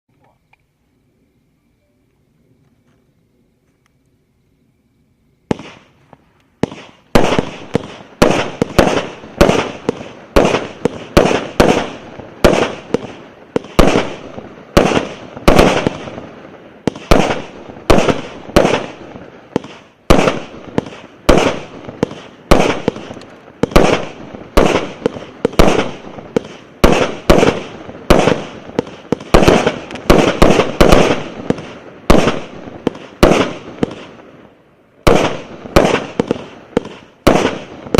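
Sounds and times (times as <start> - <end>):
firework cake sharp bangs: 5.5 - 34.4, 35.0 - 37.9.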